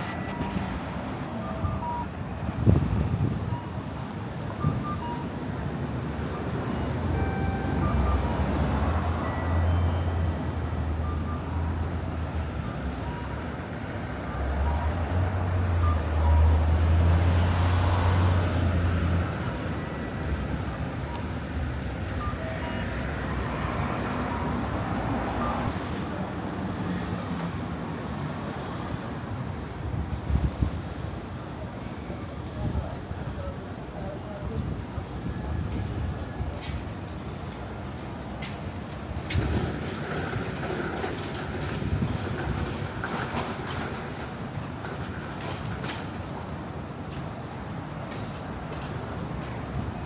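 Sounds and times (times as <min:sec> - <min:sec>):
vehicles passing: 0:00.0 - 0:50.0.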